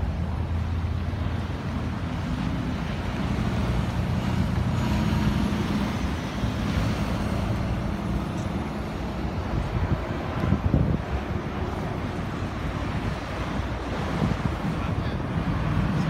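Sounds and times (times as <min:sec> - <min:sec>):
car engines: 0:00.0 - 0:16.0.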